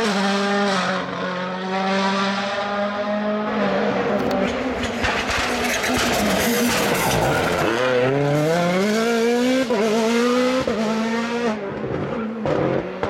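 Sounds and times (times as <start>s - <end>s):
rally car accelerating hard: 0.0s - 13.0s.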